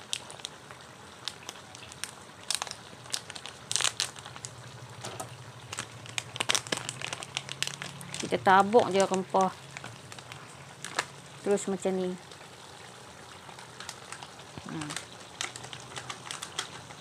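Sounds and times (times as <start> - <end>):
low steady hum: 0.0 - 17.0
sauce simmering with pops: 0.0 - 17.0.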